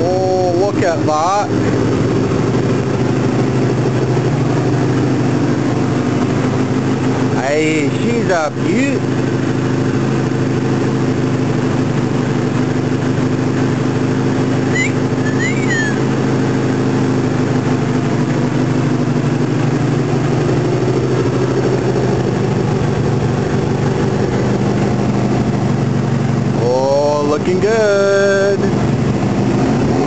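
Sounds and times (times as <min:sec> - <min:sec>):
motorcycle engine idling: 0:00.0 - 0:29.5.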